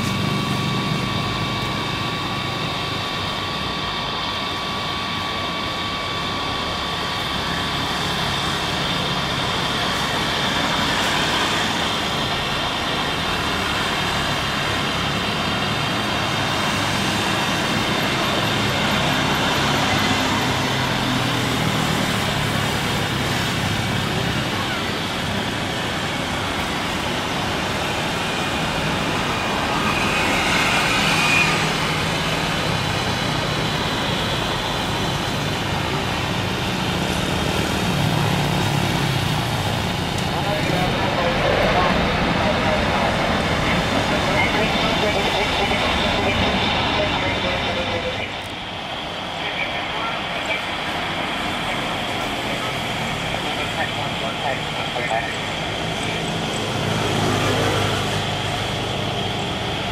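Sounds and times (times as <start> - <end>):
high engine whine: 0.0 - 59.9
jet engine noise: 0.0 - 59.9
road traffic noise: 0.0 - 59.9.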